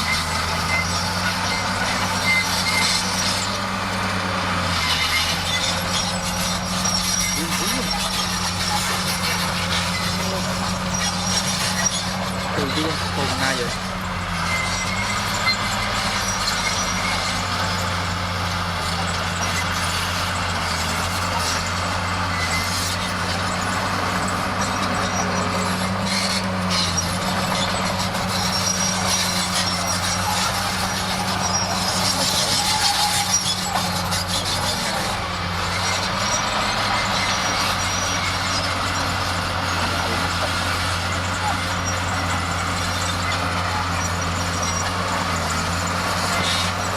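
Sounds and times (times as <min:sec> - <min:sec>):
bulldozer diesel engine running: 0:00.0 - 0:46.9
steel tracks squealing: 0:00.0 - 0:46.9.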